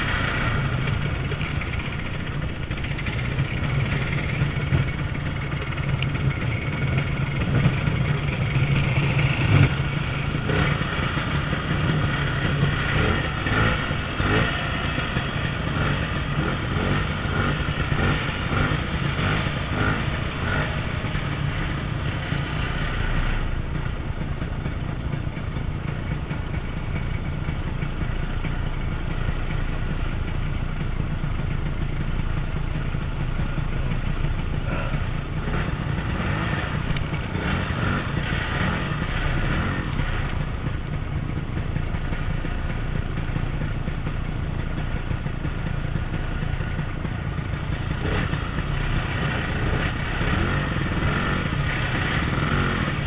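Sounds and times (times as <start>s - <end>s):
clatter: 0.0s - 53.0s
snowmobile engine running: 0.0s - 53.0s.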